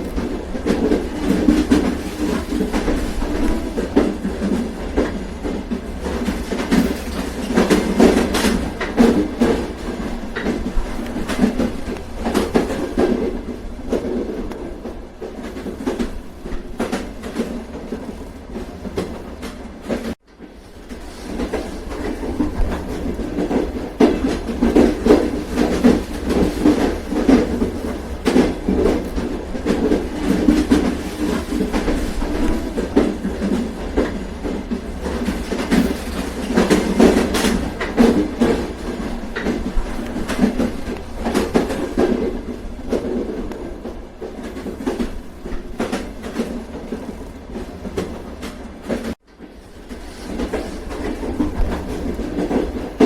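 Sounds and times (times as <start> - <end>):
train rumbling on rails: 0.0 - 53.0
wheels clattering over track: 0.0 - 53.0.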